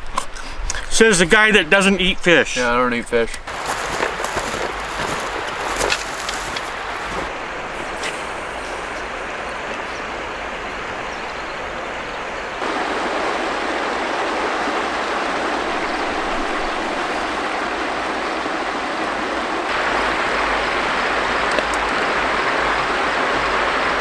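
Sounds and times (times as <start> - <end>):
river water rushing: 3.4 - 24.0.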